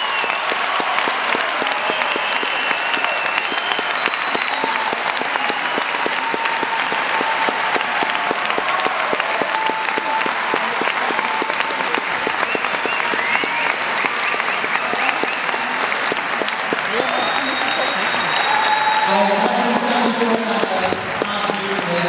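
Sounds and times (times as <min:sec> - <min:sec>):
crowd applauding and cheering: 0:00.0 - 0:22.0.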